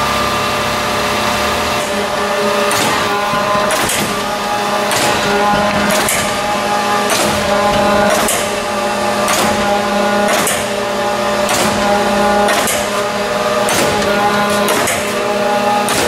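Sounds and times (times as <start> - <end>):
grinder motor hum: 0.0 - 16.0.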